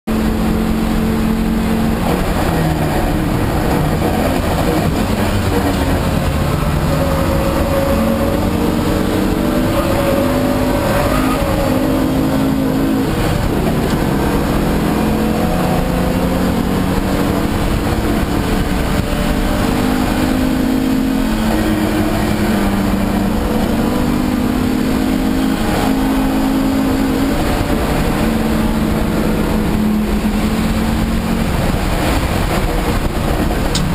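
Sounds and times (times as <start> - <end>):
car engine revving under load: 0.1 - 33.9
wind and road noise: 0.1 - 33.9.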